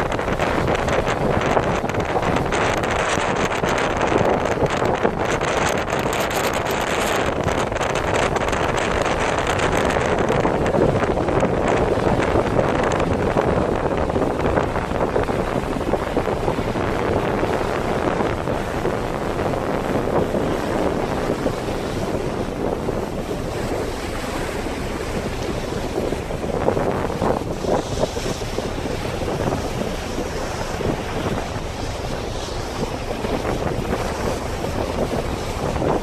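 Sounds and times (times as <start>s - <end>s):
rushing water: 0.0s - 36.0s
wind buffeting microphone: 0.0s - 36.0s.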